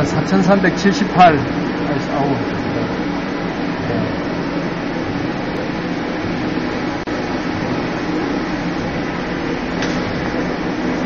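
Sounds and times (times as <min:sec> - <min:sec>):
lathe running hum: 0:00.0 - 0:11.0.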